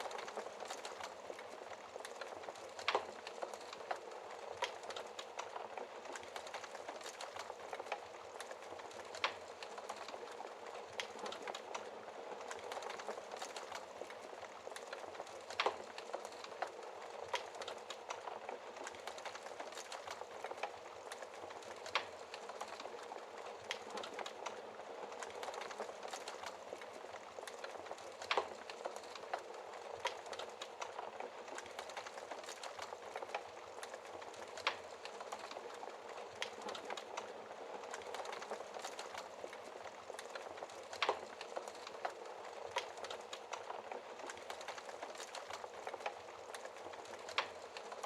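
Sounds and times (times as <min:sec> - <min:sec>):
fire popping: 0:00.0 - 0:48.0
fireplace fire crackling: 0:00.0 - 0:48.0.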